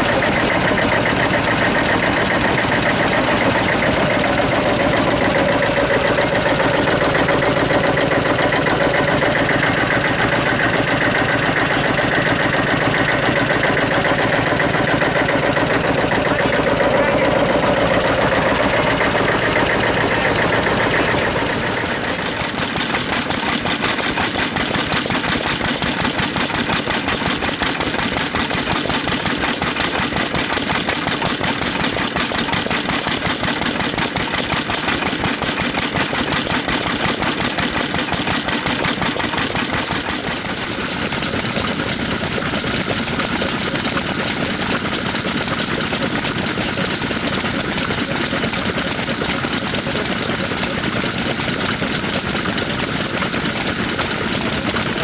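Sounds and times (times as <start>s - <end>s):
stationary engines running: 0.0s - 55.0s.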